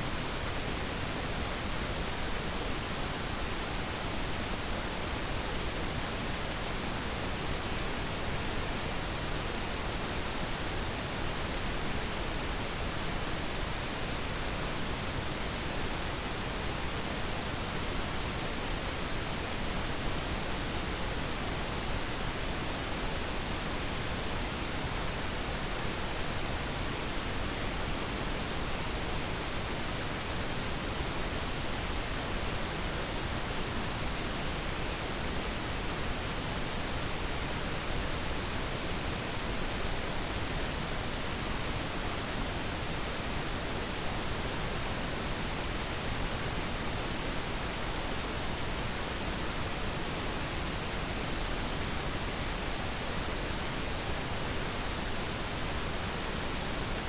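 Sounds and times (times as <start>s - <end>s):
steady pink noise hiss: 0.0s - 57.0s.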